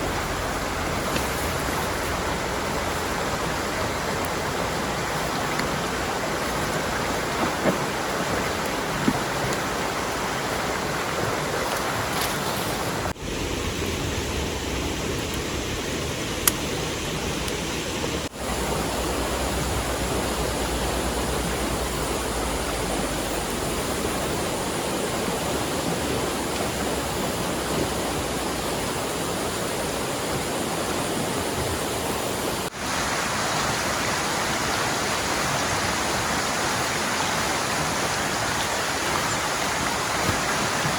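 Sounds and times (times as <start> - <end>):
heavy rain: 0.0 - 40.9
rushing river water: 0.0 - 40.9.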